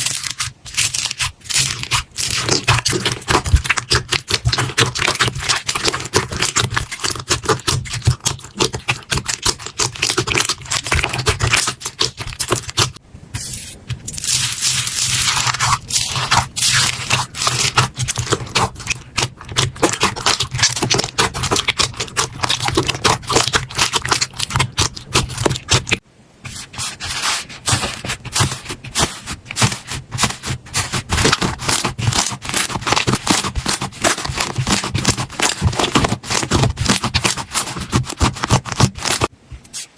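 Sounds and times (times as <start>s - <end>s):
slime crackling and squelching: 0.0s - 39.9s.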